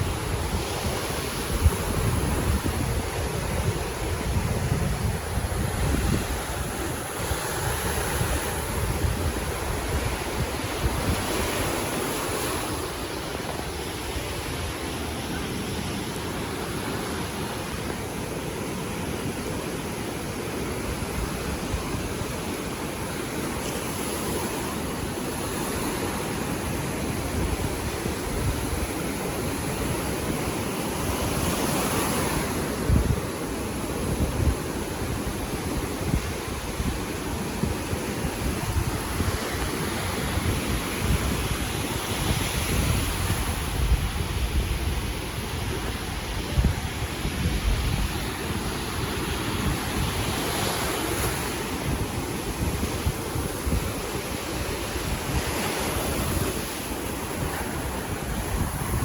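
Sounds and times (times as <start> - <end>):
sea surf washing onto beach: 0.0 - 59.0
wind rumbling on microphone: 0.0 - 59.0.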